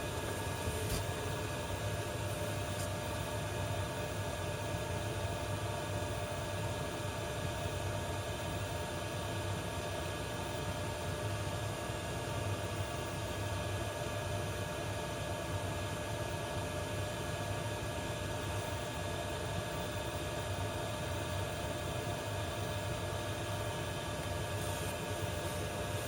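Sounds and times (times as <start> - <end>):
air heater fan drone: 0.0 - 26.0.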